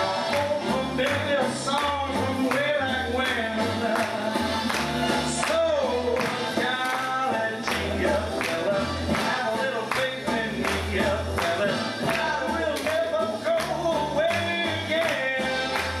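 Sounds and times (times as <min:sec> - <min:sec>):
band playing: 0:00.0 - 0:16.0
person singing with vibrato: 0:00.0 - 0:16.0
steady bass beat: 0:00.0 - 0:16.0.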